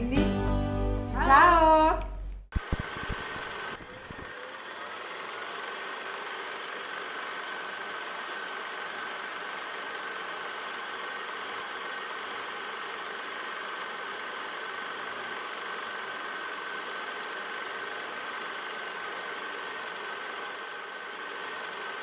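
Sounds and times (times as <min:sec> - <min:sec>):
machine running with high whine: 0:02.5 - 0:22.0.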